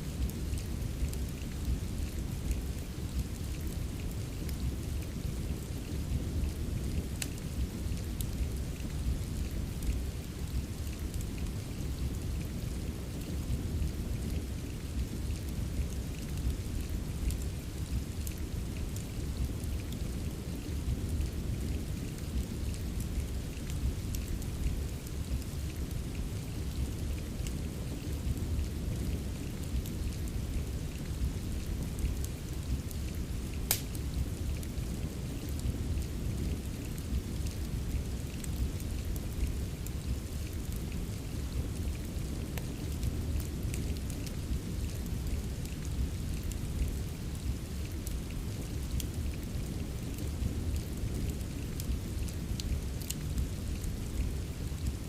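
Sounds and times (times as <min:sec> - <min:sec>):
fireplace crackles and pops: 0:00.0 - 0:55.0
steady rain: 0:00.0 - 0:55.0.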